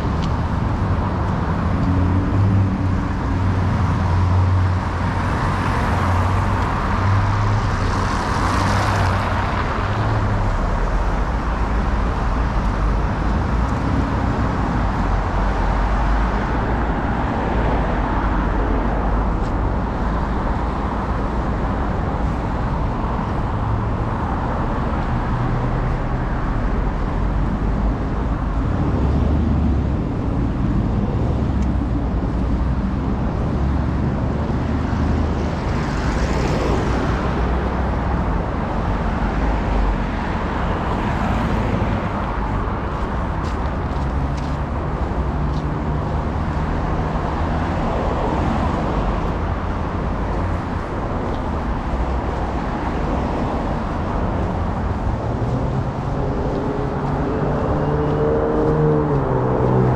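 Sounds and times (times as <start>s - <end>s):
road traffic rumble and tyre hiss: 0.0s - 59.9s.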